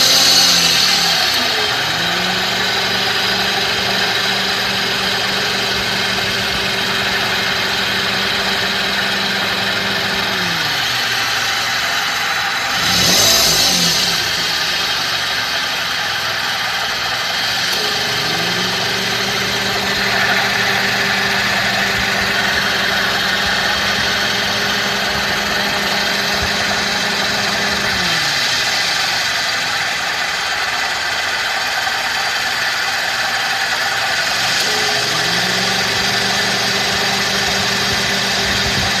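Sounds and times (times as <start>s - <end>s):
car engine idling: 0.0s - 39.0s
steady hum winding down and up: 0.0s - 39.0s.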